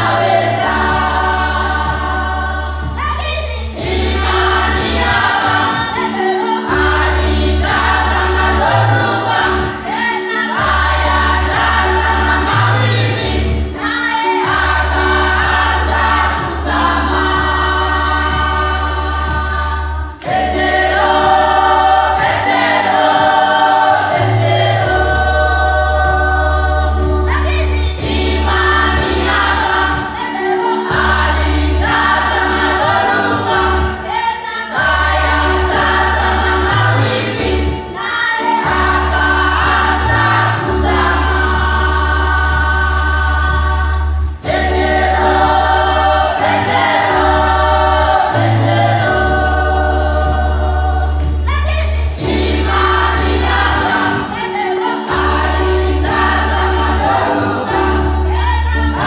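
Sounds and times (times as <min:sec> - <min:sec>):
choir singing gospel song: 0:00.0 - 0:59.0.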